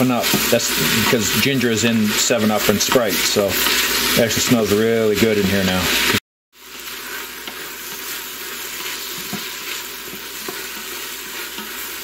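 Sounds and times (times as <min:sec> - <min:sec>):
vegetables sizzling in oil: 0:00.0 - 0:12.0
wooden spoon stirring and scraping: 0:00.0 - 0:12.0.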